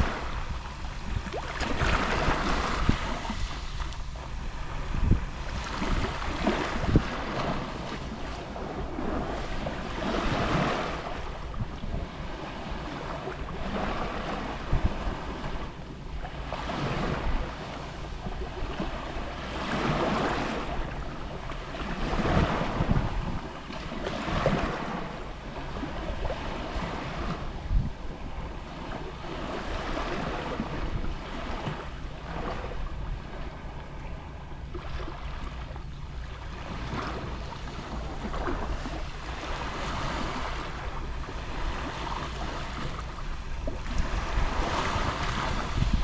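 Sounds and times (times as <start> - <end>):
waves lapping on shore: 0.0 - 46.0
wind rumbling on microphone: 0.0 - 46.0.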